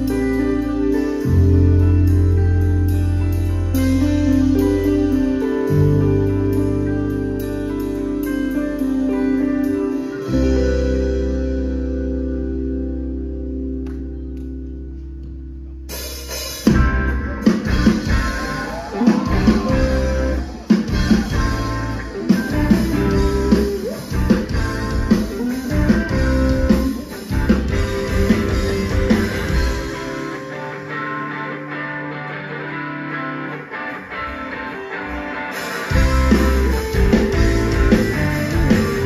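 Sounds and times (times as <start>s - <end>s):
guitar ringing: 0.0s - 39.0s
rock band playing live: 0.0s - 39.0s.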